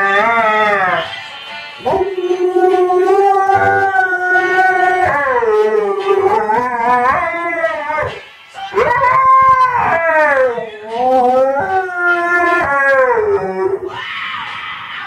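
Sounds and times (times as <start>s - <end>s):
dog howling: 0.0s - 1.1s, 1.8s - 14.6s
song playing: 0.0s - 13.6s.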